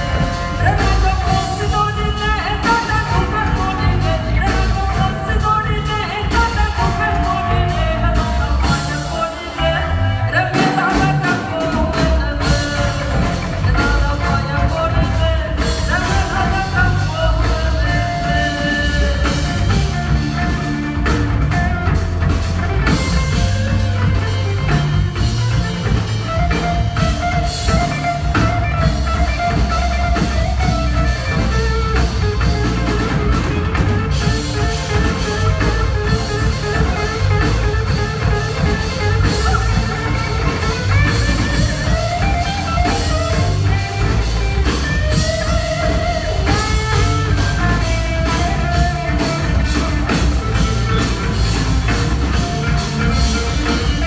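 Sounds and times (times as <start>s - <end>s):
bass: 0.0s - 54.0s
drum kit: 0.0s - 54.0s
electric guitar melody: 0.0s - 54.0s.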